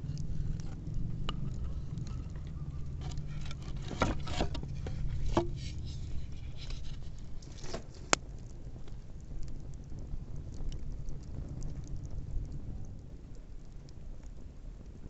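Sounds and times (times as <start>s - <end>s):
bonfire crackling and popping: 0.0s - 15.0s
low steady rumble: 0.0s - 15.0s.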